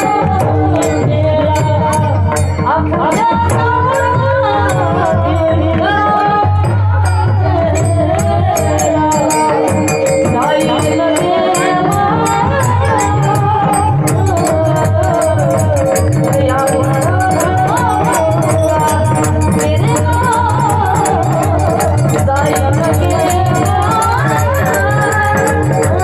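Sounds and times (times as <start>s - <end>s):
small percussion strikes: 0.0s - 26.0s.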